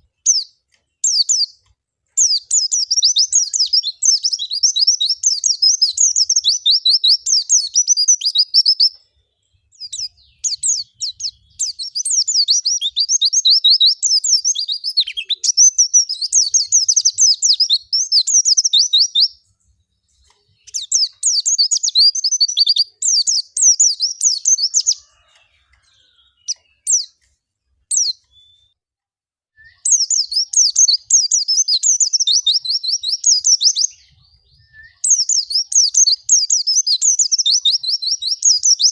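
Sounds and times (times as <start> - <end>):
bird twittering song: 0.0 - 28.8, 29.6 - 38.9.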